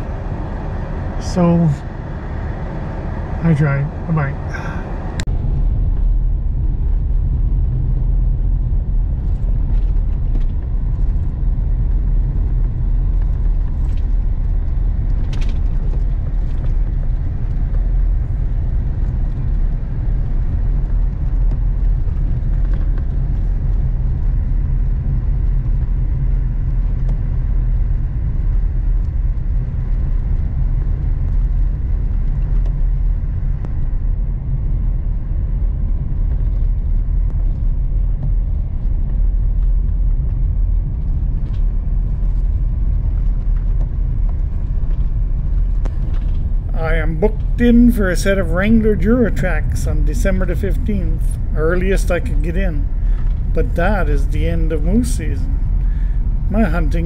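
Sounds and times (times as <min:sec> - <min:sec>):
truck driving on snowy road: 0:00.0 - 0:57.0.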